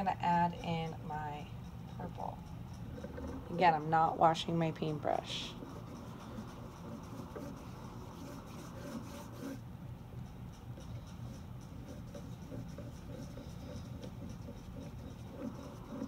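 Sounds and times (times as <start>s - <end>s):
paintbrush rubbing on paper: 0.0s - 9.6s, 10.5s - 16.0s.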